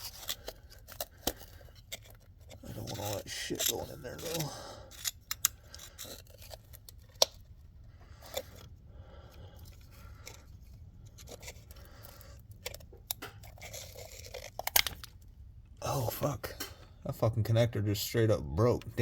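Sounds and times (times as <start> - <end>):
scraping and rustling plastic parts: 0.0 - 15.3.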